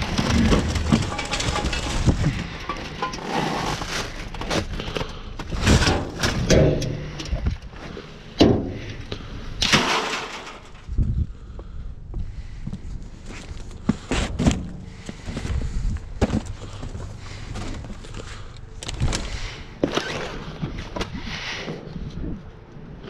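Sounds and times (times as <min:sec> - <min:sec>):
junk rustling and scraping: 0:00.0 - 0:11.4, 0:12.2 - 0:22.3.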